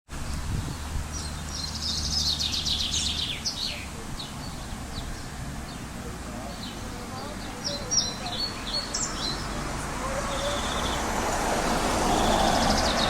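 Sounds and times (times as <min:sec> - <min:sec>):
songbirds trilling and chirping: 0:00.1 - 0:13.0.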